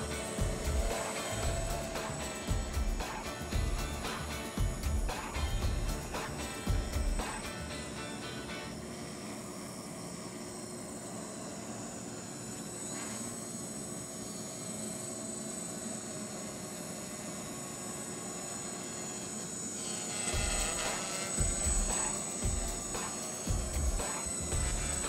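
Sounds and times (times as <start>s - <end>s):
quadcopter propellers buzzing: 0.0s - 25.0s.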